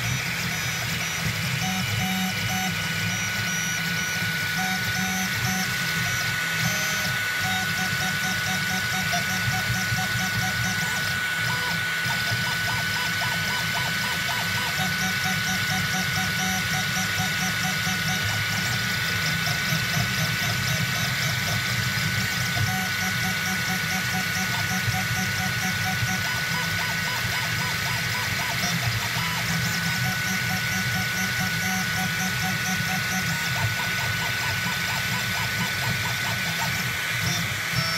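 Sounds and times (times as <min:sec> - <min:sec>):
steady high whine: 0:00.0 - 0:37.9
steady hum: 0:00.0 - 0:37.9
stepper motors whirring: 0:00.0 - 0:37.9.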